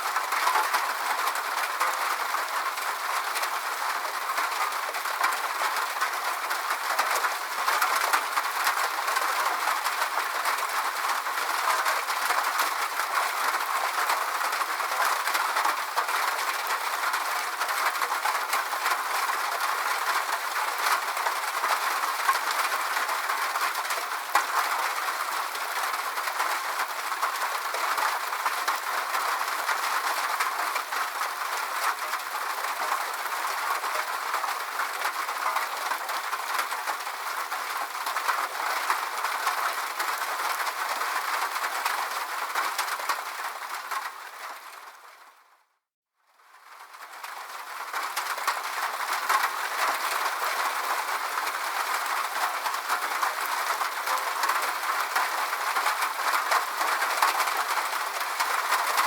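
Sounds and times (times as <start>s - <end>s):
rain falling: 0.0s - 45.5s, 46.4s - 59.0s.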